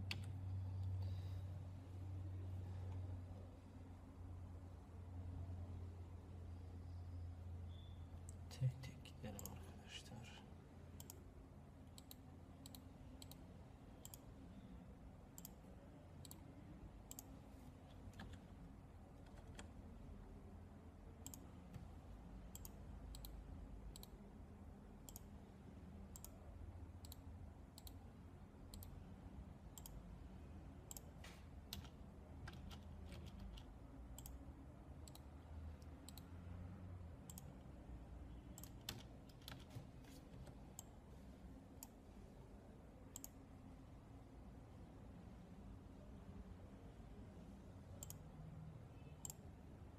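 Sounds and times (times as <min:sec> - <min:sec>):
faint low hum: 0:00.0 - 0:49.9.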